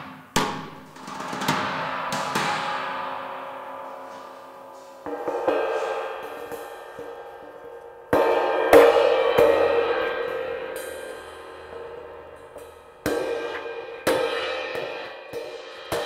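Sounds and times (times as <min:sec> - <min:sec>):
cymbal struck by hand ringing: 0:00.6 - 0:16.0.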